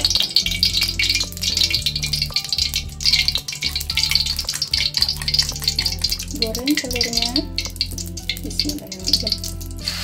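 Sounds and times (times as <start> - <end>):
background music: 0.0 - 10.0
hot oil crackling and sizzling: 0.0 - 10.0.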